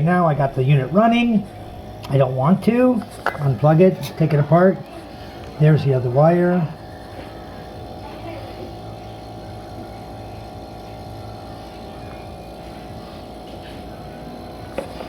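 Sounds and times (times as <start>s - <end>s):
freezer compressor humming: 0.0s - 15.0s.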